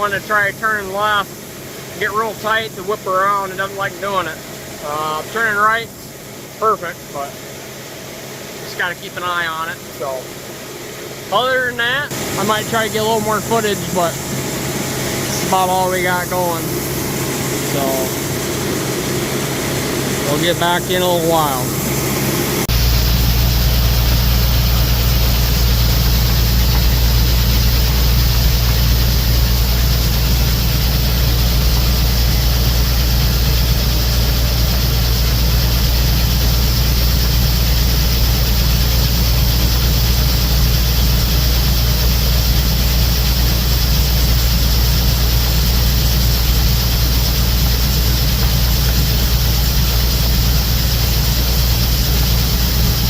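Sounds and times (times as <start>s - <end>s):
combine engine droning: 0.0s - 53.0s.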